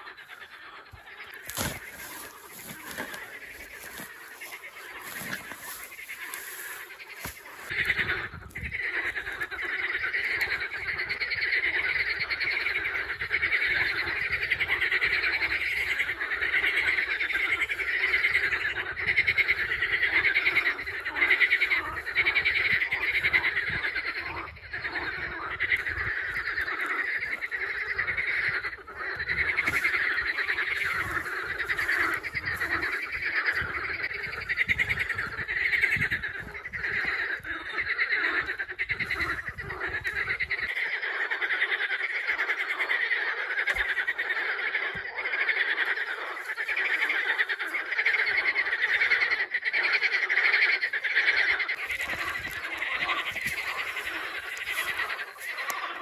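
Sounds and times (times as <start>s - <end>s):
chorus of frogs calling: 0.0s - 56.0s.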